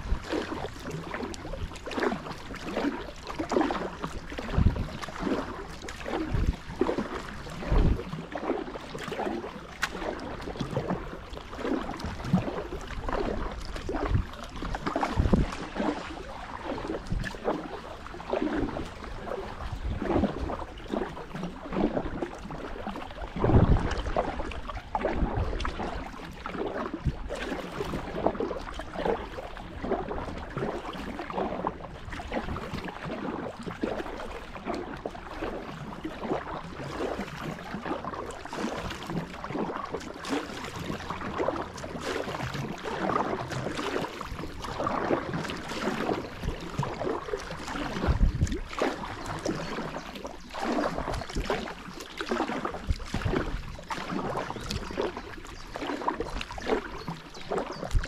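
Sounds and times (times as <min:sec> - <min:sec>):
paddle splashing water: 0:00.0 - 0:58.0.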